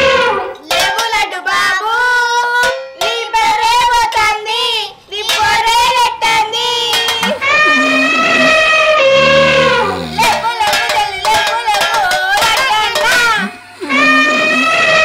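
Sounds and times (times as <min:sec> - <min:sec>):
high-pitched singing voice: 0:00.0 - 0:15.0.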